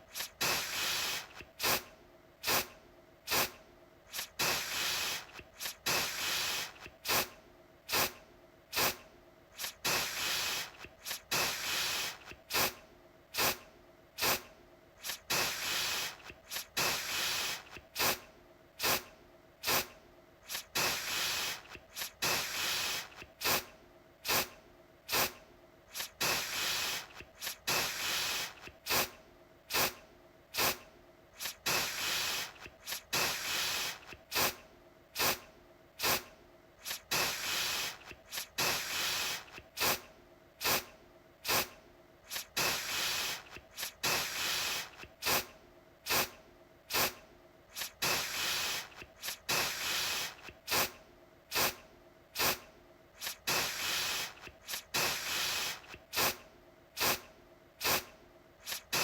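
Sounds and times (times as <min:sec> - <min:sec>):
aerosol can spraying: 0:00.1 - 0:02.7, 0:03.3 - 0:09.0, 0:09.6 - 0:12.8, 0:13.4 - 0:13.6, 0:14.2 - 0:18.2, 0:18.8 - 0:30.0, 0:30.6 - 0:30.8, 0:31.4 - 0:34.6, 0:35.2 - 0:35.4, 0:36.0 - 0:45.5, 0:46.1 - 0:51.8, 0:52.4 - 0:52.6, 0:53.2 - 0:56.4, 0:57.0 - 0:59.0.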